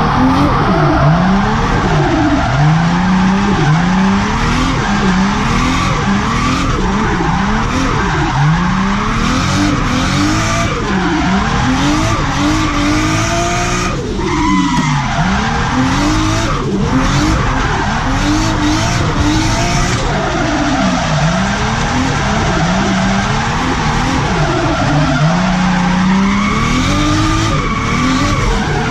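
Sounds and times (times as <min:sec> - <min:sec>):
car engine revving: 0:00.0 - 0:28.9
tyres skidding: 0:00.0 - 0:28.9.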